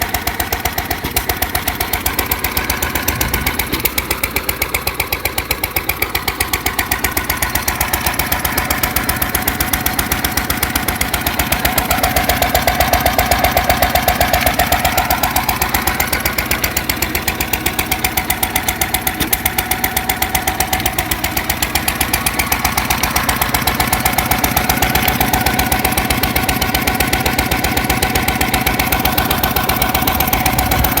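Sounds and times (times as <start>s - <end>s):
stationary engine running: 0.0s - 31.0s.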